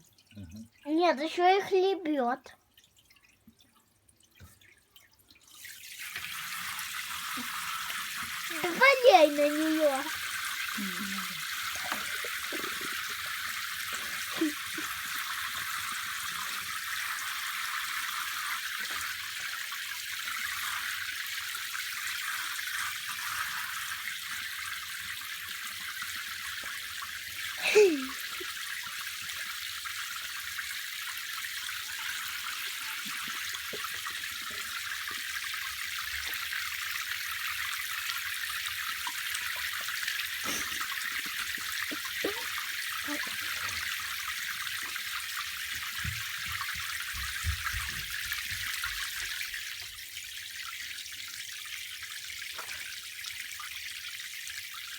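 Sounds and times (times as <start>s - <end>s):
tap water running into bathtub: 0.0s - 54.9s.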